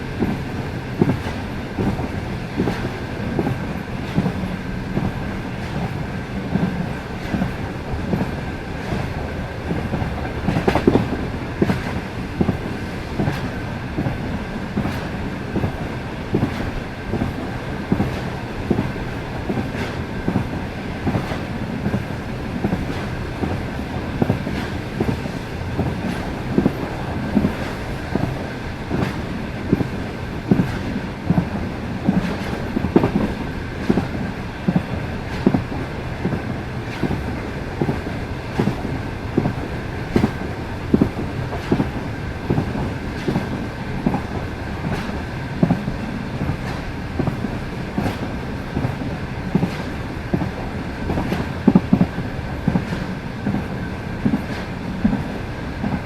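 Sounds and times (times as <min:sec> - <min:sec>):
train rumble: 0:00.0 - 0:56.0
train wheels clickety-clack: 0:00.0 - 0:56.0.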